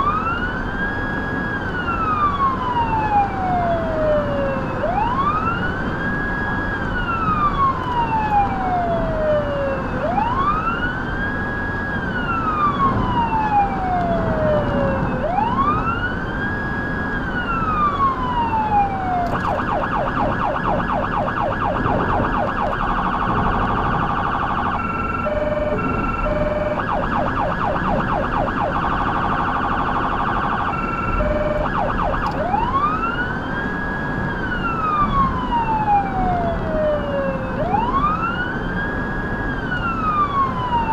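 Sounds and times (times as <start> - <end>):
electronic siren wailing and yelping: 0.0 - 1.0, 1.7 - 6.4, 7.0 - 40.9.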